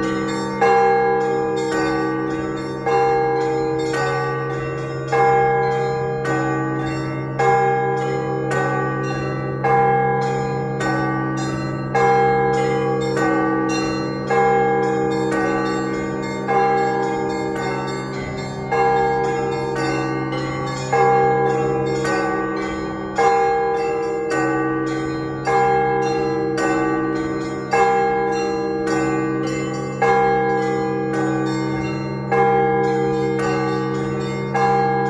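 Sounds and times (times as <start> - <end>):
church bells ringing: 0.0 - 35.0.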